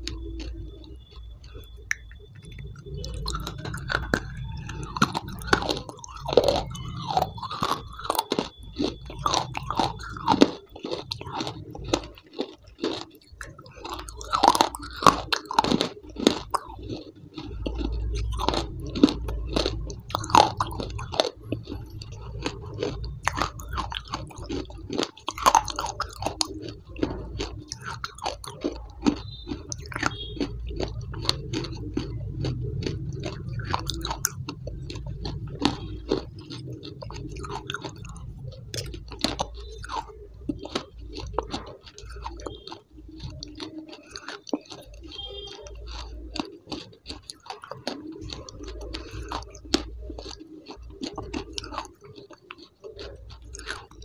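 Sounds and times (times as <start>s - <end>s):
crunching and chewing hard food: 0.0s - 54.0s.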